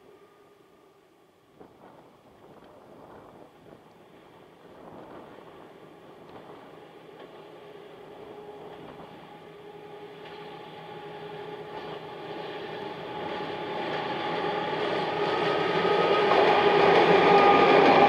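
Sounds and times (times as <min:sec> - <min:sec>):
diesel locomotive engine drone: 0:00.0 - 0:18.0
train rolling noise: 0:00.0 - 0:18.0.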